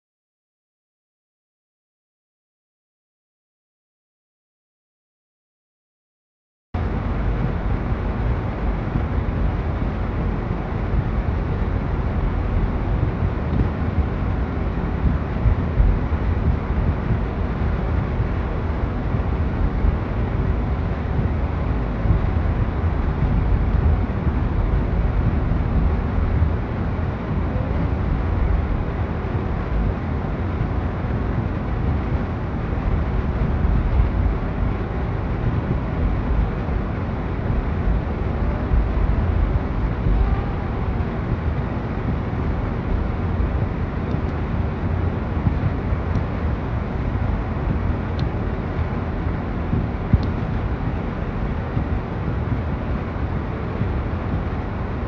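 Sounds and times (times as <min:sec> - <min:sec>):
wind buffeting microphone: 0:06.8 - 0:55.0.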